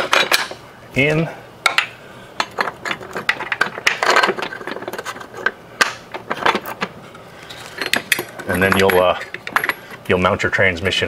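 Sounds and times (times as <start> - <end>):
bolts and washers clinking: 0.0 - 0.6, 1.6 - 10.2.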